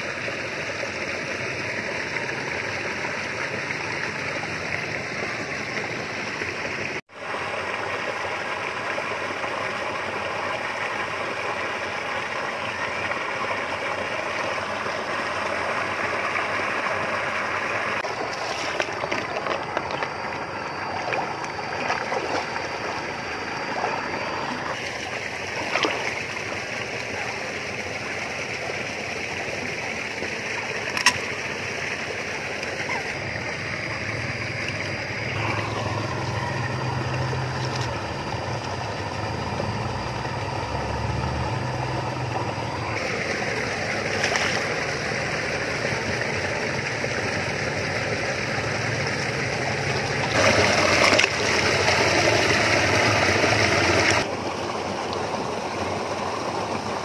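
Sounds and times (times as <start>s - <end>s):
stream water running: 0.0s - 57.0s
water splashing: 0.0s - 57.0s.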